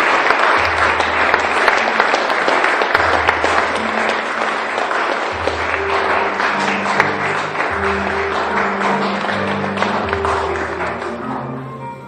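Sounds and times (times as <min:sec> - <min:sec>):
audience clapping: 0:00.0 - 0:11.6
music: 0:00.0 - 0:12.0.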